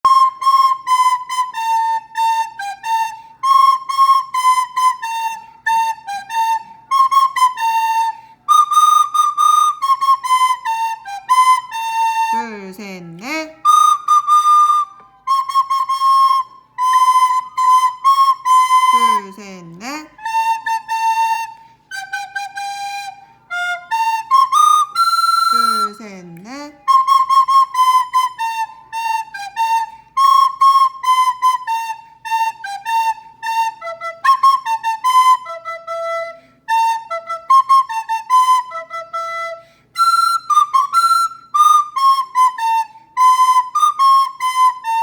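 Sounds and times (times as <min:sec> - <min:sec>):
recorder playing melody: 0:00.1 - 0:45.0.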